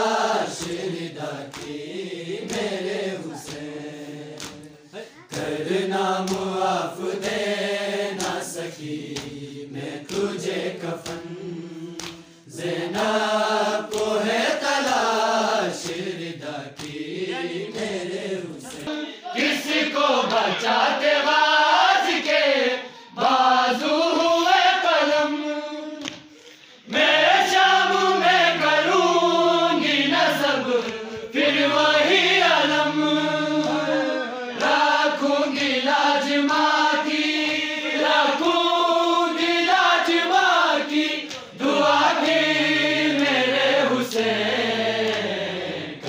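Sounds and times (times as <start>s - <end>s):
men chanting in unison: 0.0s - 46.0s
rhythmic chest-beating: 0.0s - 46.0s.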